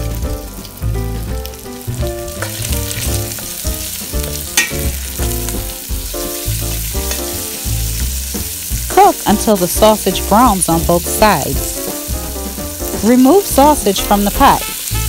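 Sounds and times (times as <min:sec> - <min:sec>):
background music: 0:00.0 - 0:15.0
sausage sizzling in a pot: 0:00.0 - 0:15.0.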